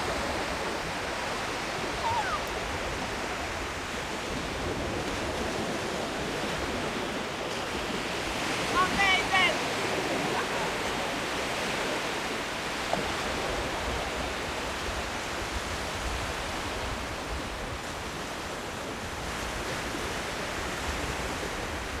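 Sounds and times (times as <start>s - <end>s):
sea surf breaking: 0.0s - 22.0s
wind buffeting microphone: 0.0s - 22.0s.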